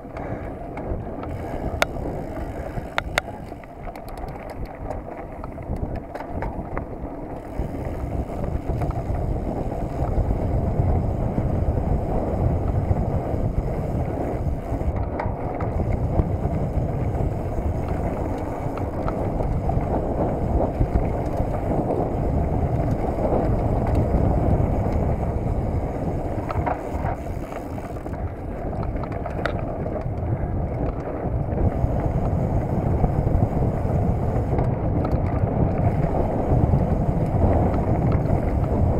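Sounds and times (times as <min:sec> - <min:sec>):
bike clicks and rattles: 0:00.0 - 0:38.9
tyres running over dirt: 0:00.0 - 0:38.9
wind buffeting microphone: 0:00.0 - 0:38.9.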